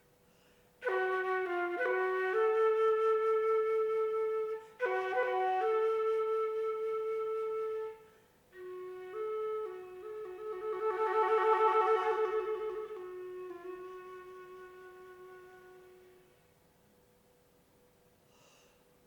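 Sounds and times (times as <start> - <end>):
solo flute playing: 0.8 - 16.5.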